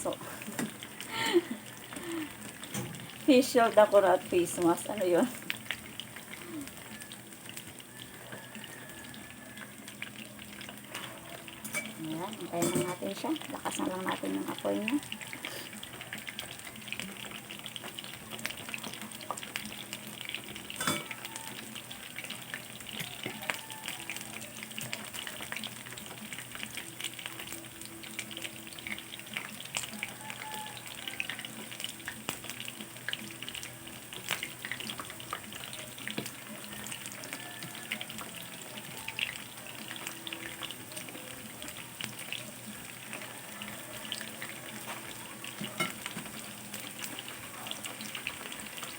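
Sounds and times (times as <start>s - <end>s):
food sizzling in hot oil: 0.0s - 48.9s.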